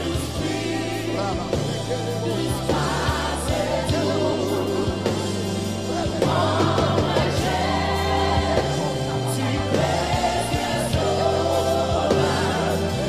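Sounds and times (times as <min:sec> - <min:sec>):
bass guitar: 0:00.0 - 0:13.0
choir singing: 0:00.0 - 0:13.0
lead voice singing: 0:00.0 - 0:13.0.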